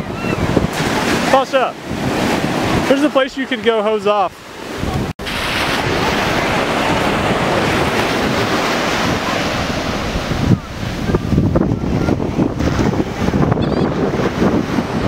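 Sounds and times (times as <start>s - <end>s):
wind buffeting microphone: 0.0s - 3.4s, 4.3s - 15.0s
ocean surf breaking: 0.0s - 15.0s.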